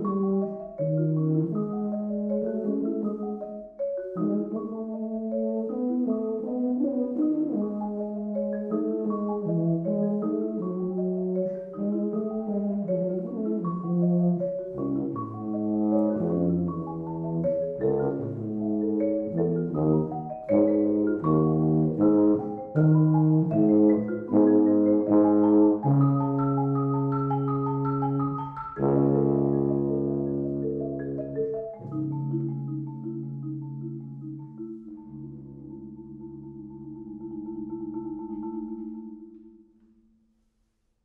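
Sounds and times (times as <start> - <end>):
tuba low notes: 0.0 - 37.6
marimba notes: 0.0 - 40.3.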